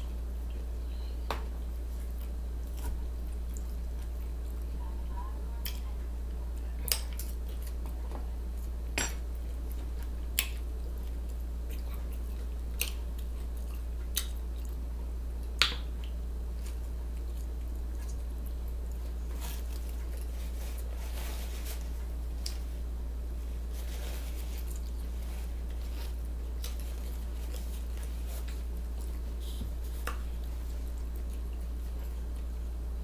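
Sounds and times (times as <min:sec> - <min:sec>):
steady low hum: 0:00.0 - 0:33.0
chewing and mouth sounds: 0:01.5 - 0:04.9, 0:05.6 - 0:21.0, 0:24.6 - 0:33.0.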